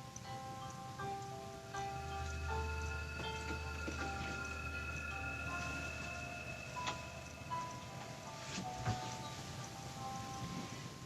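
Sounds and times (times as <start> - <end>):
low steady hum: 0.0 - 10.8
faint electronic tune: 0.0 - 10.9.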